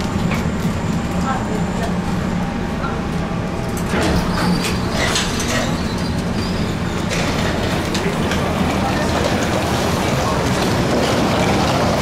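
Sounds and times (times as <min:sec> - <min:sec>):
light rattles from train car: 0:00.0 - 0:12.0
people-mover train motor hum: 0:00.0 - 0:12.0.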